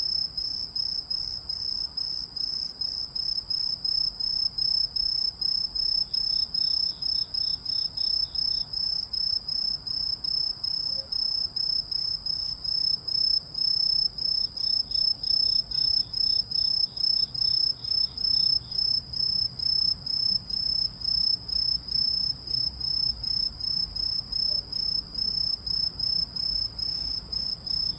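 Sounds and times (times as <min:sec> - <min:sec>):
cricket chirping: 0:00.0 - 0:27.9.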